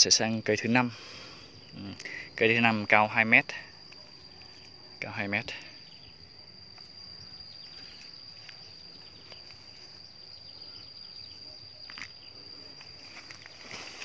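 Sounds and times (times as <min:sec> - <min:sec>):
faint outdoor background noise: 0:00.0 - 0:14.0
high-pitched insect trill: 0:00.0 - 0:14.0.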